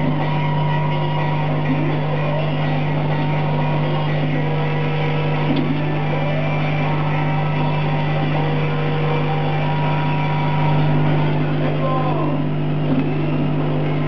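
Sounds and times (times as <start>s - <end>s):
drive motor whining tones: 0.0s - 14.0s
laser cutter low hum: 0.0s - 14.0s.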